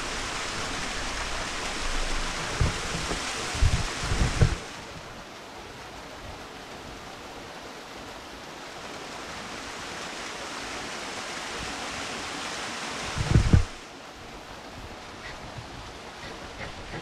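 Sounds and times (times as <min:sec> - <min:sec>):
rushing stream water: 0:00.0 - 0:17.0.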